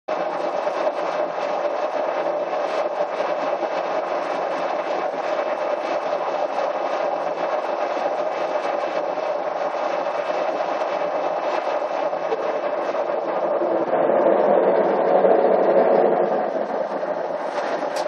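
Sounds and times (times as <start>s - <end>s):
scanner whirring and humming: 0.1s - 18.0s.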